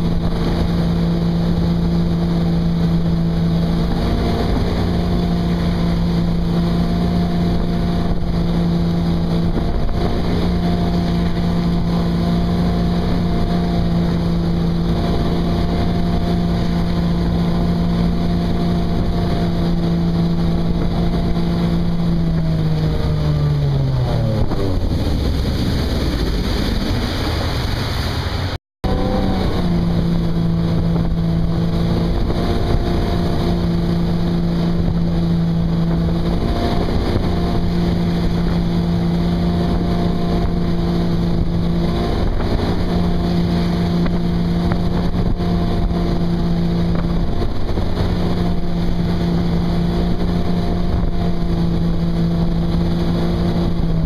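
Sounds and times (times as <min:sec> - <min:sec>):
boat engine running: 0:00.0 - 0:54.0
wake noise: 0:00.0 - 0:54.0
wind: 0:00.0 - 0:54.0.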